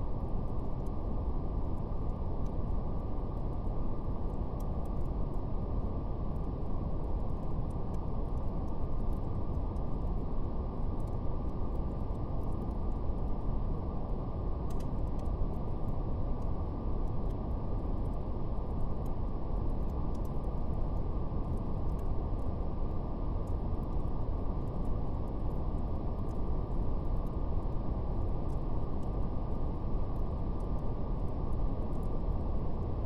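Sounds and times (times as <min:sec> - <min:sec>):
brown noise rumbling hiss: 0:00.0 - 0:33.0.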